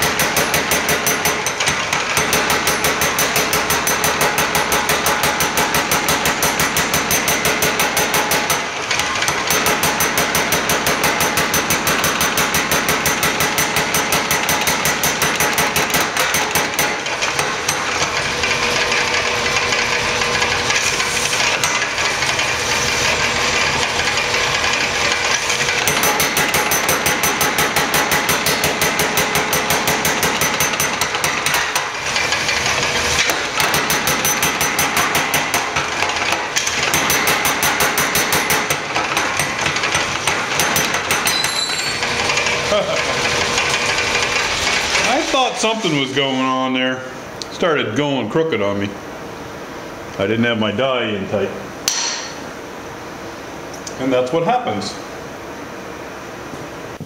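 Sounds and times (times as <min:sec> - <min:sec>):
power hammer striking steel: 0:00.0 - 0:45.5, 0:51.8 - 0:52.4.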